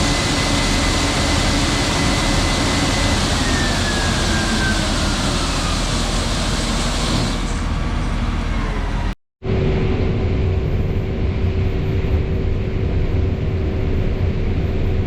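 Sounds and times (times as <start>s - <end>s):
combine harvester running: 0.0s - 14.2s.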